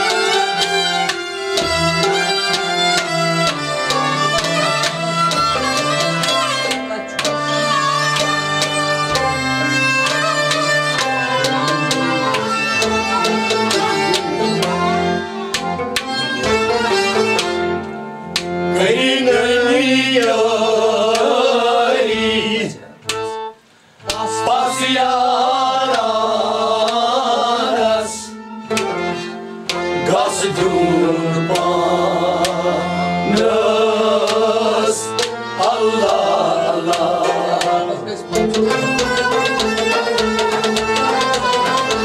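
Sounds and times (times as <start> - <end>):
harmonium drone: 0.0 - 20.3, 27.6 - 42.0
bowed strings melody: 0.0 - 42.0.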